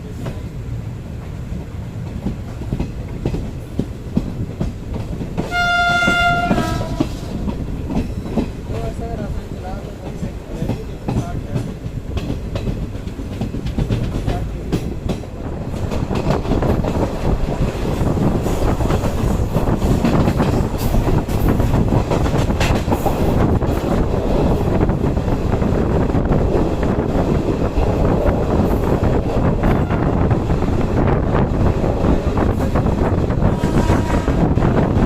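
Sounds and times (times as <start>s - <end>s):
train rumbling on rails: 0.0s - 35.0s
wheels clicking over rail joints: 2.0s - 33.5s.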